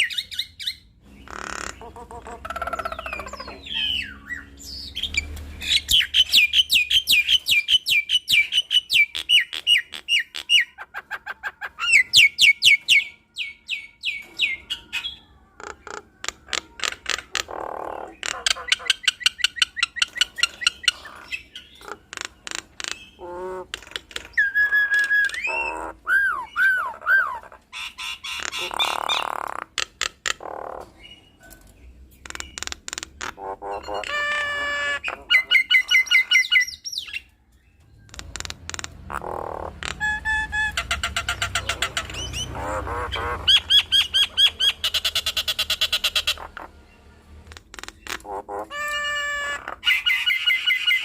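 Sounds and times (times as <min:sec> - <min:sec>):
myna calling: 0:00.0 - 0:31.0, 0:33.2 - 0:37.1, 0:38.1 - 0:46.8.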